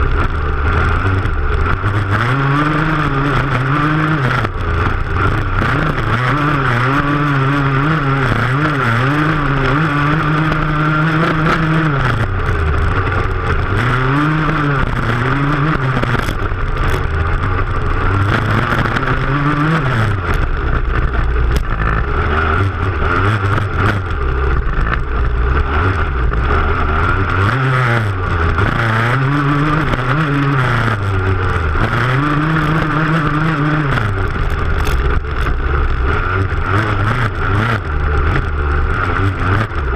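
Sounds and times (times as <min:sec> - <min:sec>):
racing engine at high revs: 0:00.0 - 0:39.9
wind and ground noise: 0:00.0 - 0:39.9.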